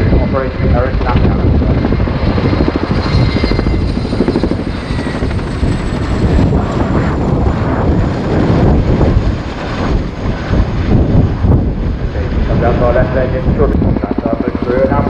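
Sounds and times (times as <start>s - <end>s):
helicopter rotor blade slap: 0.0s - 15.0s.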